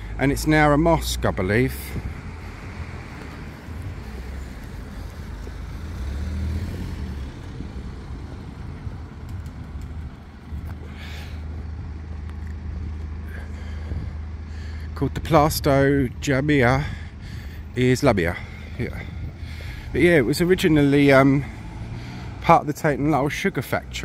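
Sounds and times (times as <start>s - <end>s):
cars passing on street: 0.0s - 24.0s.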